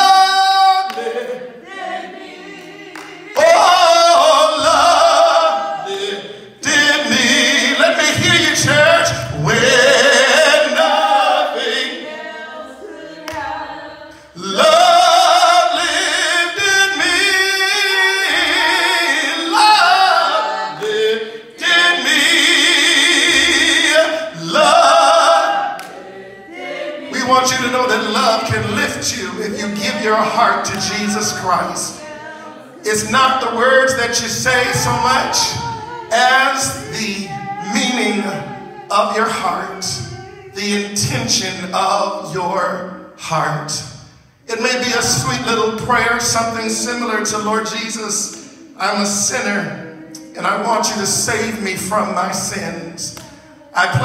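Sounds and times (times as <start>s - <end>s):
man singing a hymn unaccompanied: 0.0s - 1.7s, 3.0s - 12.0s, 14.2s - 25.9s, 27.0s - 32.1s, 32.8s - 54.0s.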